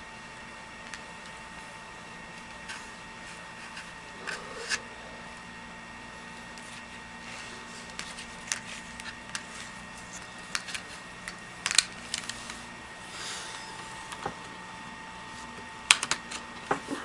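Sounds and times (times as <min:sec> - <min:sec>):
background hum: 0:00.0 - 0:17.0
faint high whine: 0:00.0 - 0:17.0.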